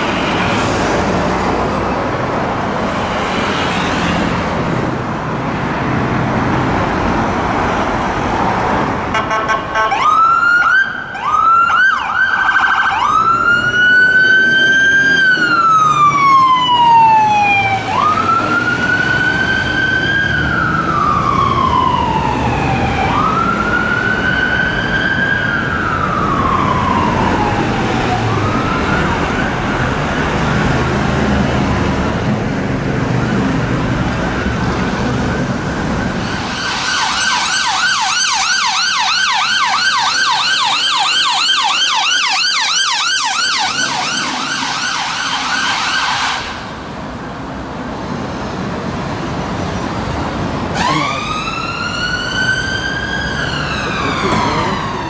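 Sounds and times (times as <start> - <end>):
road traffic: 0.0 - 55.0
fire engine siren wailing: 6.7 - 48.0, 49.1 - 55.0.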